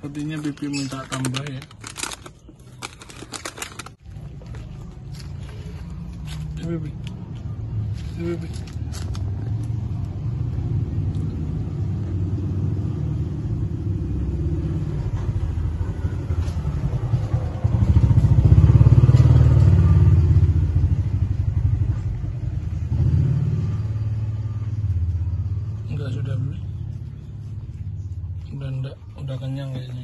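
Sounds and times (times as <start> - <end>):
engine rumbling: 0.0 - 30.0.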